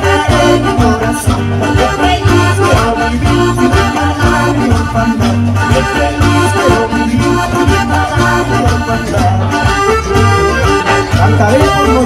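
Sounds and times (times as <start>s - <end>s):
accordion: 0.0s - 12.0s
folk band playing: 0.0s - 12.0s
pulsing bass: 0.0s - 12.0s.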